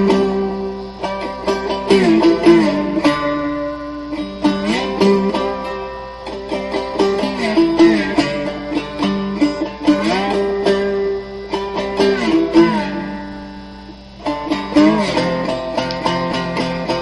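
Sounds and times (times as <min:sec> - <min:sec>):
slide guitar plucked notes: 0:00.0 - 0:17.0.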